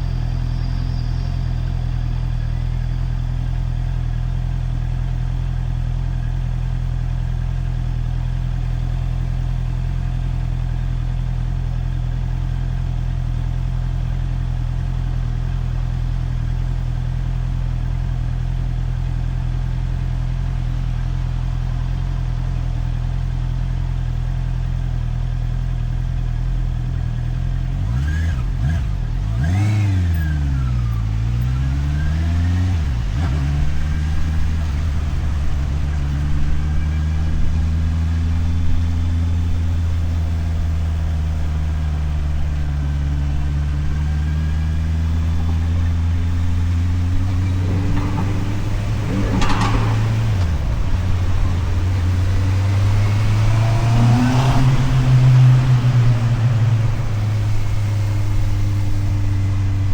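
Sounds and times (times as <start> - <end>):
motorcycle engine running and revving: 0.0 - 59.9.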